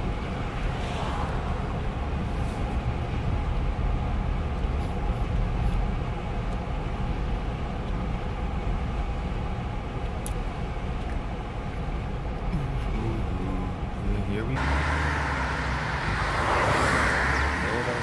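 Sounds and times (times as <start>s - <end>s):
vehicle rumble from inside cabin: 0.0s - 18.0s.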